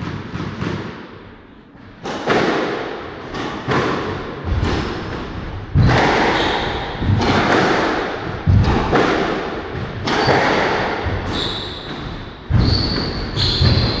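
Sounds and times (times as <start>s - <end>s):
squash ball hitting racquets and walls: 0.0s - 14.0s.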